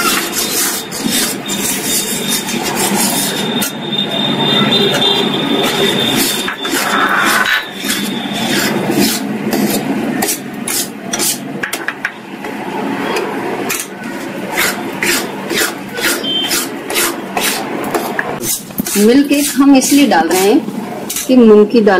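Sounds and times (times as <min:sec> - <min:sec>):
spatula scraping a metal pan: 0:00.0 - 0:11.6, 0:13.1 - 0:21.6.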